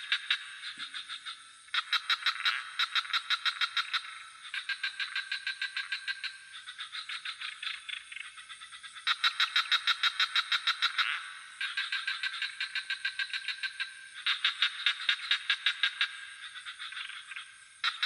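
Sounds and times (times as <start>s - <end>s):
frogs calling in pulsed trills: 0.0s - 18.0s
high-pitched cricket trill: 0.0s - 18.0s.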